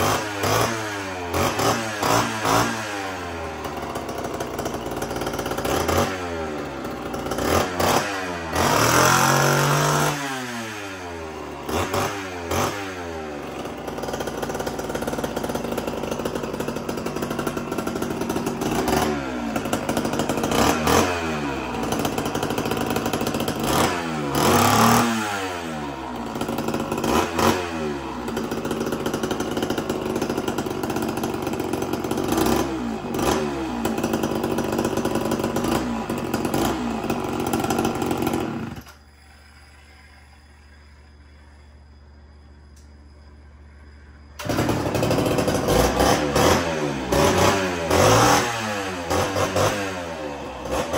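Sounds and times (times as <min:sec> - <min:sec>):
chainsaw revving: 0:00.0 - 0:41.6, 0:44.4 - 0:50.9.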